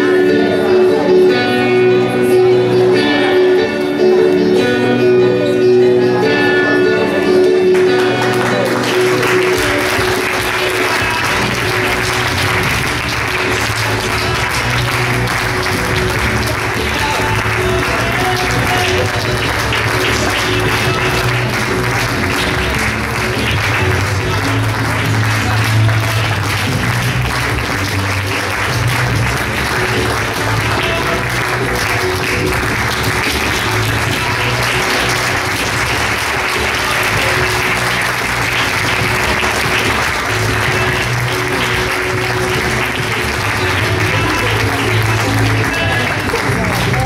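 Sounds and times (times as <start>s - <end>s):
music playing through hall: 0.0s - 47.0s
audience applause: 7.7s - 47.0s.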